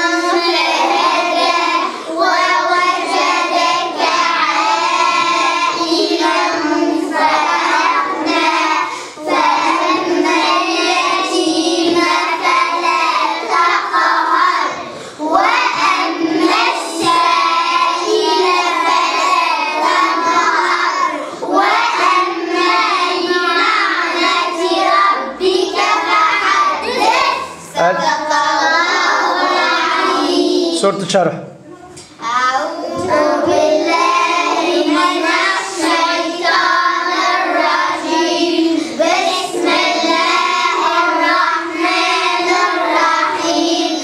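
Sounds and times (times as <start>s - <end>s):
children chanting in unison: 0.0s - 30.9s, 32.2s - 44.0s.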